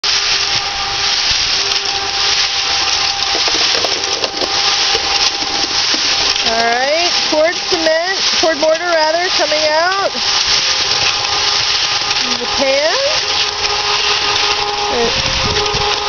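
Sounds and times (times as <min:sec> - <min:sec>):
cement mixer drum churning: 0:00.0 - 0:16.0
faint motor hum: 0:00.0 - 0:16.0
wet concrete pouring: 0:00.0 - 0:16.0.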